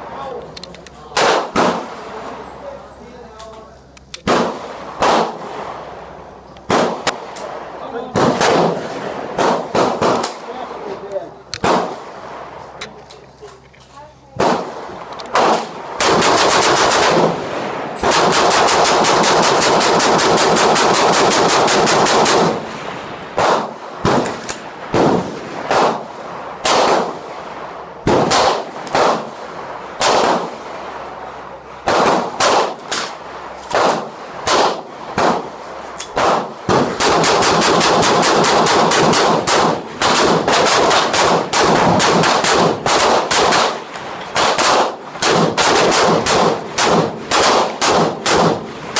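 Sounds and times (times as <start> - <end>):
gunshots: 1.1 - 2.2, 4.2 - 5.9, 6.7 - 12.5, 14.4 - 27.4, 28.0 - 30.9, 31.8 - 48.9.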